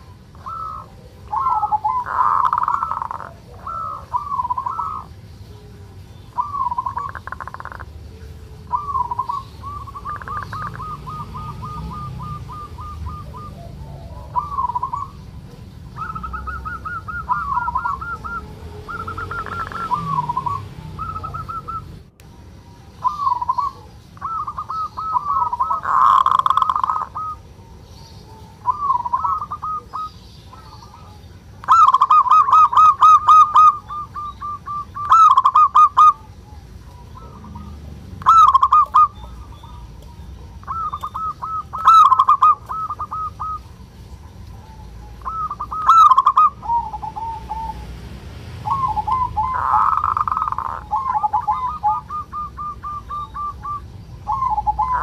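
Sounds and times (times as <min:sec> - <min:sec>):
doves giving rattling trills: 0:00.0 - 0:55.0.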